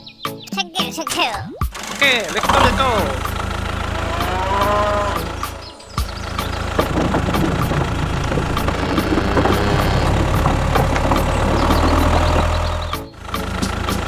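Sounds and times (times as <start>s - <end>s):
tractor engine rumbling: 1.7s - 14.0s.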